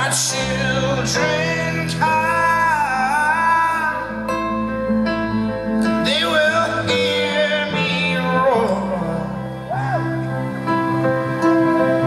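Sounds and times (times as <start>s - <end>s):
person singing: 0.0s - 4.7s, 5.8s - 10.8s.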